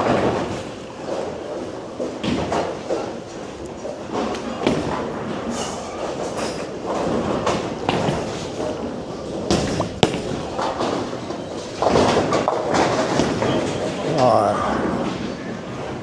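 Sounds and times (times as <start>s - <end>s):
bowling balls rumbling down lanes: 0.0s - 16.0s.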